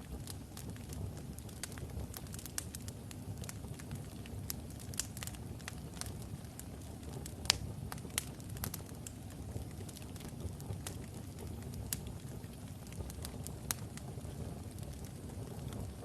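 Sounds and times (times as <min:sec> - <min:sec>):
wood logs burning and crackling: 0:00.0 - 0:16.0.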